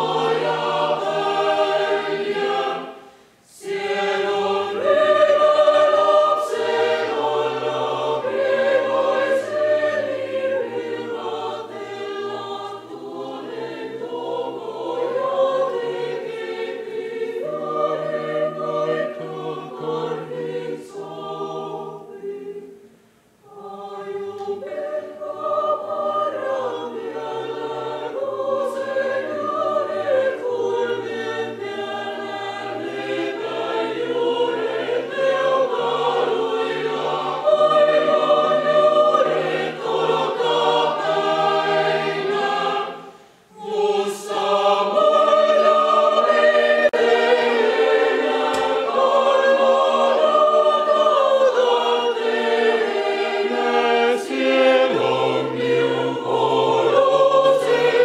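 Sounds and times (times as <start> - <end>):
mixed choir singing unaccompanied: 0.0 - 58.0.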